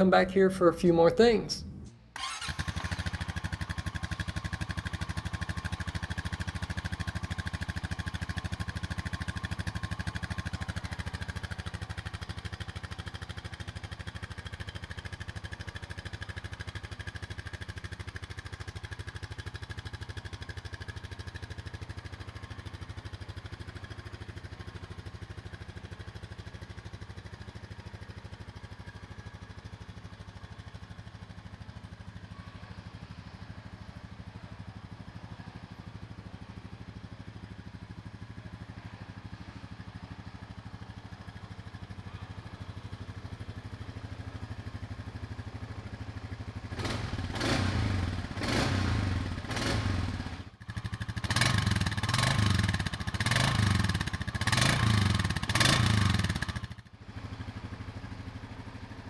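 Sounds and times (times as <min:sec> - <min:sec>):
atv engine idling: 0:00.0 - 0:59.0.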